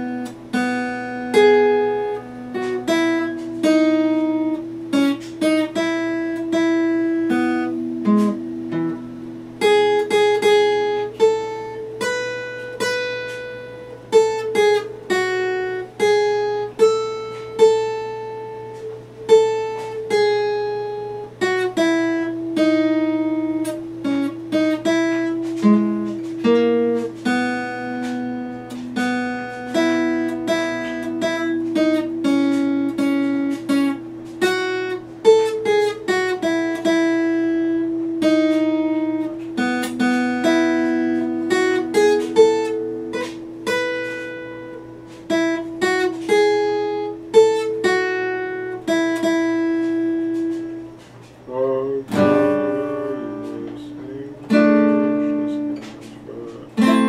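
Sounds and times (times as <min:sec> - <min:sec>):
acoustic guitar plucked slowly: 0:00.0 - 0:57.0.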